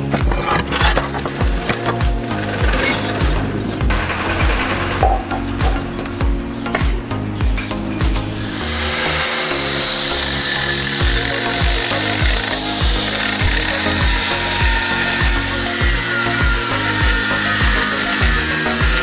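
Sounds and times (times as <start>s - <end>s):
music with kick-drum beat: 0.0s - 19.0s
power tool whining: 0.0s - 19.0s.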